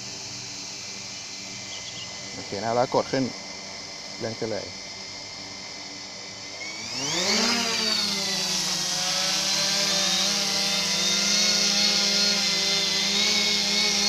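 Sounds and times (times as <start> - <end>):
drone propellers whining and buzzing: 0.0 - 14.0.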